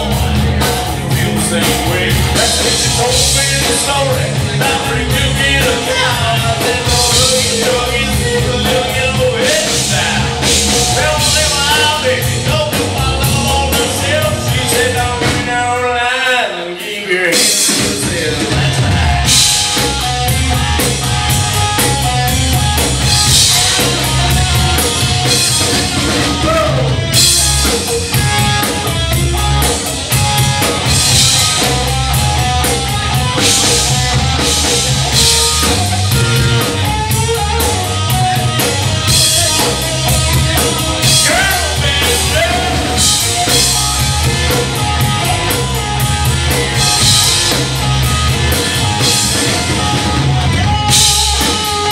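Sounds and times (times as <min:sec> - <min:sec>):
drum kit with cymbals: 0:00.0 - 0:16.1, 0:16.8 - 0:51.9
electric bass: 0:00.0 - 0:16.2, 0:17.6 - 0:51.9
electric guitar: 0:00.0 - 0:51.9.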